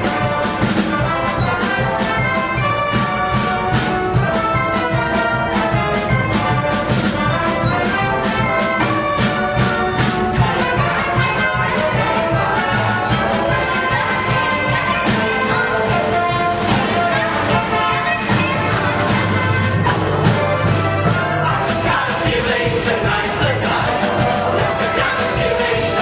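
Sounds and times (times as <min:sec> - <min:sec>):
pit orchestra playing show tune: 0:00.0 - 0:26.0.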